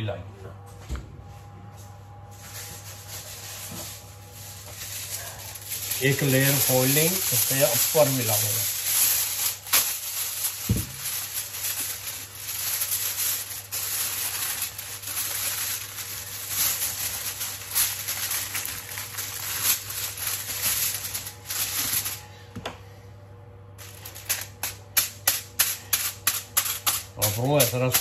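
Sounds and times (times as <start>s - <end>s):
aluminium foil crinkling: 2.3s - 22.3s, 23.8s - 28.0s
knife poking through foil: 3.1s - 22.2s, 23.8s - 28.0s.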